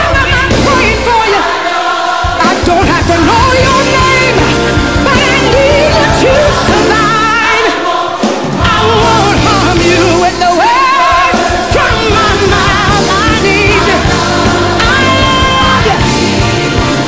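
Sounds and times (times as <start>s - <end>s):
music with singing: 0.0s - 17.0s.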